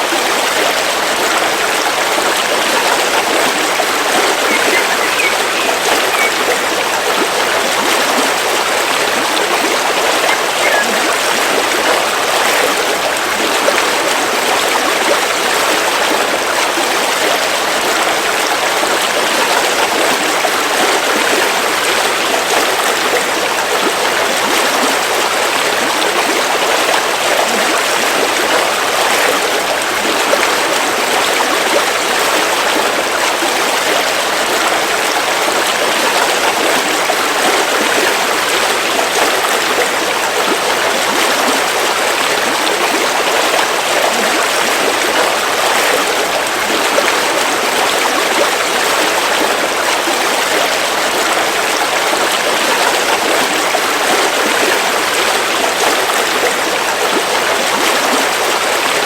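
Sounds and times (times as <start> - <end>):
river water rushing over rocks: 0.0 - 59.0.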